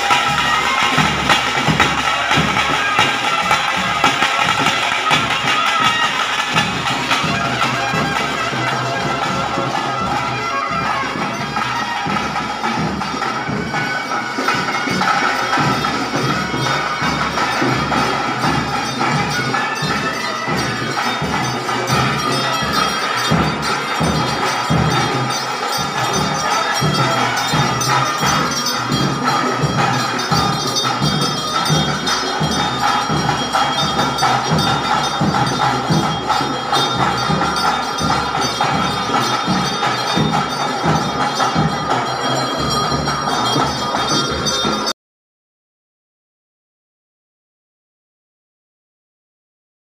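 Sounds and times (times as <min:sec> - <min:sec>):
drum strokes: 0:00.0 - 0:44.9
held high note: 0:00.0 - 0:44.9
bells jingling: 0:00.0 - 0:45.0.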